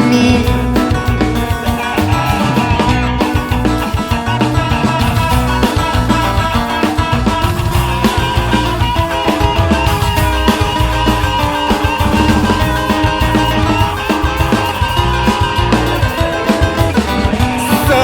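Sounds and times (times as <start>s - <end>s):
guitar-led rock band music: 0.0s - 18.0s.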